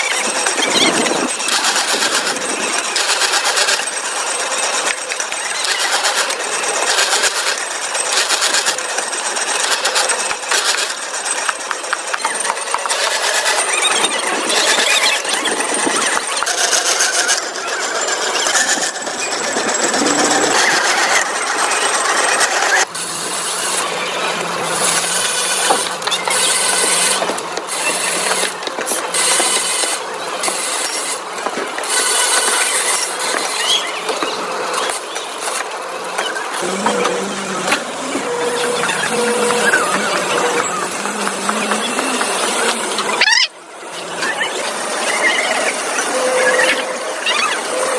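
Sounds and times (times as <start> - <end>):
factory machinery clattering: 0.0 - 47.9.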